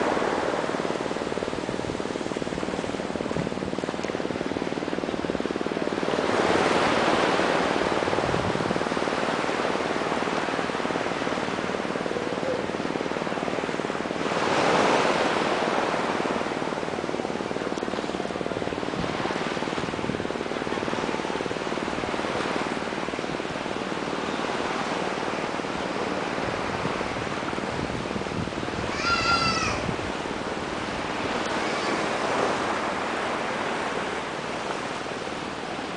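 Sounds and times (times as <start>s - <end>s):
small waves washing: 0.0s - 35.9s.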